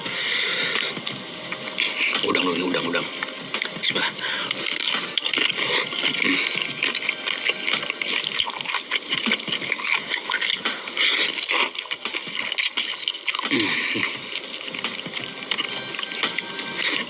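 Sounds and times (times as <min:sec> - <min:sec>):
wet chewing and mouth clicks: 0:00.0 - 0:17.0.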